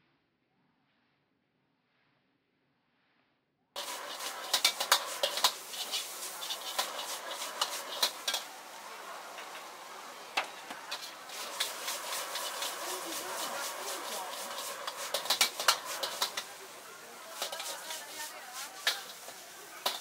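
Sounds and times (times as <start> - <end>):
spatula scraping and clanking on wok: 3.8 - 20.0
steady hiss: 3.8 - 20.0.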